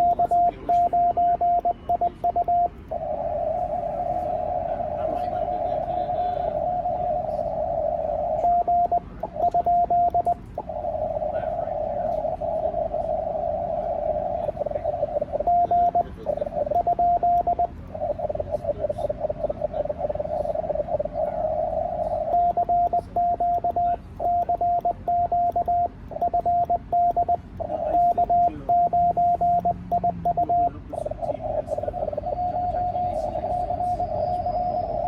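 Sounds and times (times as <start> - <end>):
hissy radio band noise: 0.0 - 35.0
morse code tones: 0.0 - 35.0.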